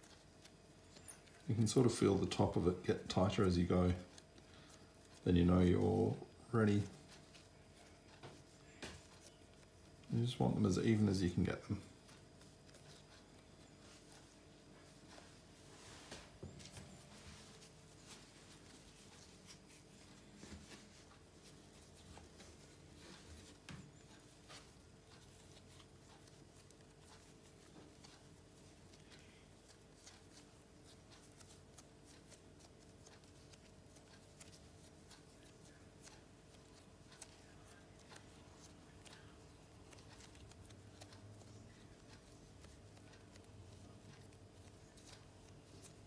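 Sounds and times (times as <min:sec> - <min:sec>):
hands handling bread dough: 0:00.0 - 0:46.0
low steady hum: 0:00.0 - 0:46.0.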